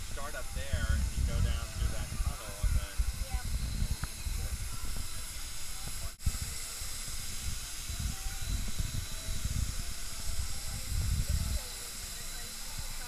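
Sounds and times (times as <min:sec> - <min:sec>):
steady hiss: 0:00.0 - 0:13.0
wind buffeting microphone: 0:00.0 - 0:13.0.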